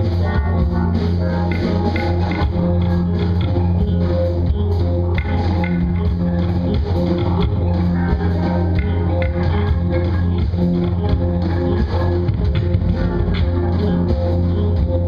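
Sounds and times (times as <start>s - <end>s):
bass guitar deep notes: 0.0s - 15.0s
drum kit steady beat: 0.0s - 15.0s
guitar: 0.0s - 15.0s.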